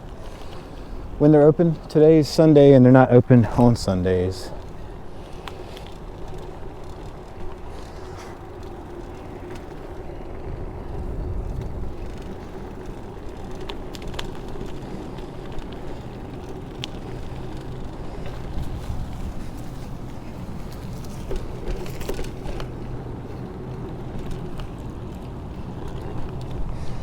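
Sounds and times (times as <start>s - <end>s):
bicycle rolling rumble: 0.0s - 27.0s
faint steady hum: 0.0s - 27.0s.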